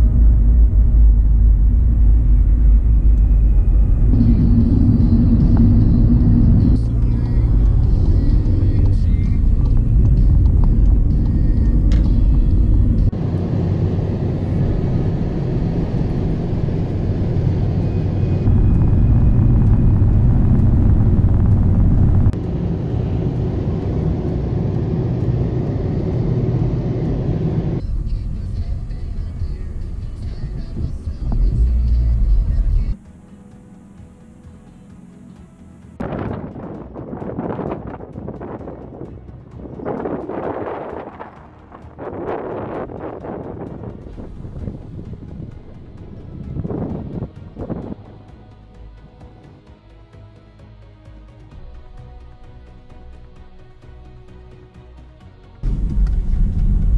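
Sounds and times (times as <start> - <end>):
car road and engine rumble: 0.0 - 49.6, 55.6 - 56.9.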